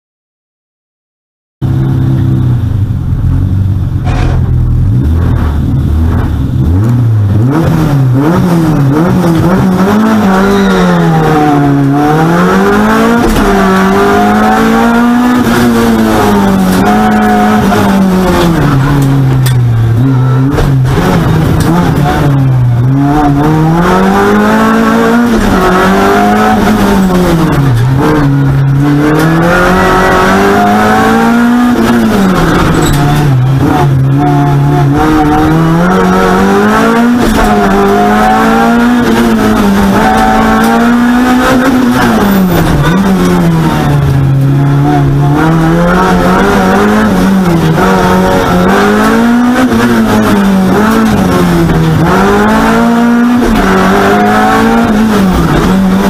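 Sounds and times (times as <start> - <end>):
car engine revving: 1.6 - 56.0.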